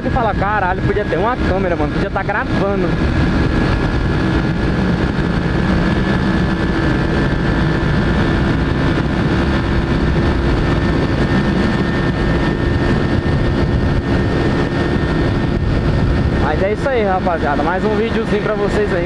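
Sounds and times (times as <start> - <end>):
motorcycle engine cruising: 0.0 - 19.0
wind rush on microphone: 0.0 - 19.0.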